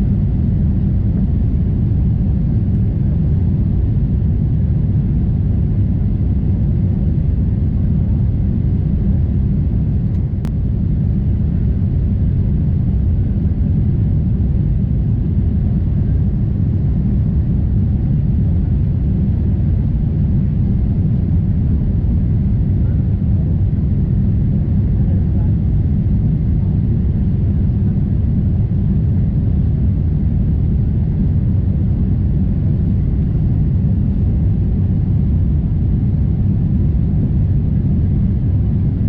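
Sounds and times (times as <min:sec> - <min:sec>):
aircraft cabin engine rumble: 0:00.0 - 0:39.0.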